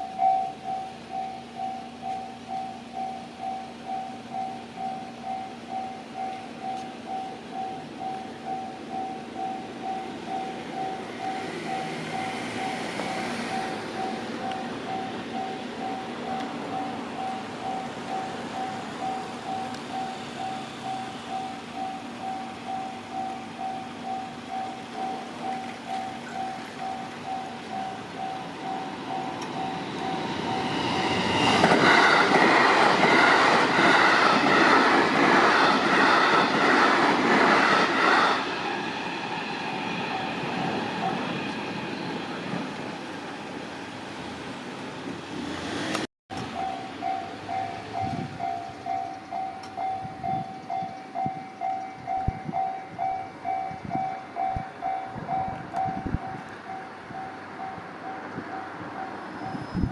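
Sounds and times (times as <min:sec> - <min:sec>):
level-crossing warning bell: 0:00.0 - 0:43.6, 0:46.3 - 0:59.9
train rumbling over crossing: 0:00.0 - 0:59.9.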